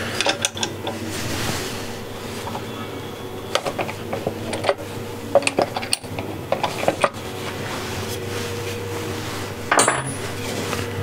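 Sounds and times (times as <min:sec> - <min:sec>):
wood lathe humming: 0:00.0 - 0:09.7.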